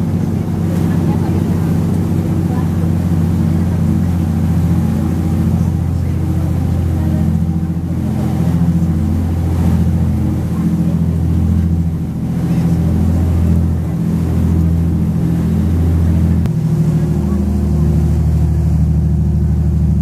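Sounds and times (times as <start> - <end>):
boat engine drone: 0.0 - 20.0
water rushing along hull: 0.0 - 20.0.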